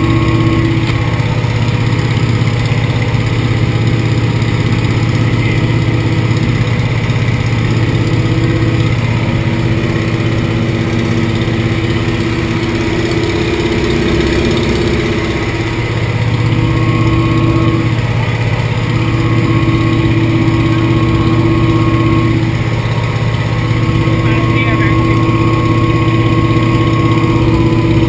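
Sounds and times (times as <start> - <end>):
aircraft engine droning: 0.0 - 28.0.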